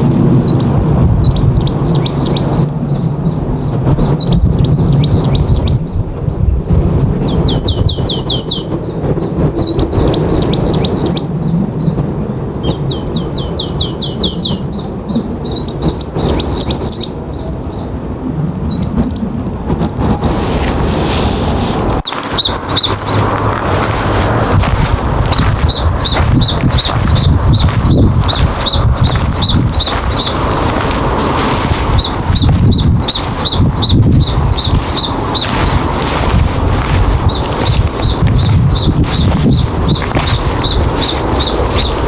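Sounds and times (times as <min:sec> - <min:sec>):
strong wind rushing: 0:00.0 - 0:42.0
small birds chirping: 0:00.5 - 0:06.0, 0:07.2 - 0:18.0, 0:18.7 - 0:42.0.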